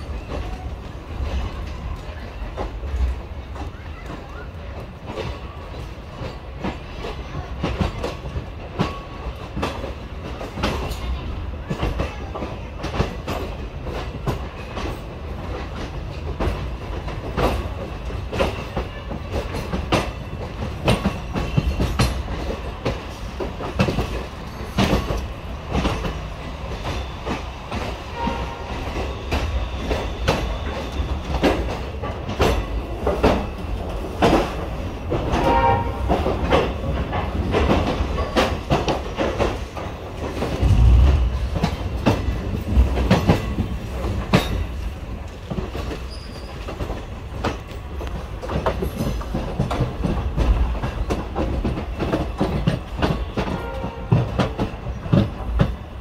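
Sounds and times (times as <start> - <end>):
train coach rumbling: 0.0 - 56.0
wheels clacking over rail joints: 0.0 - 56.0.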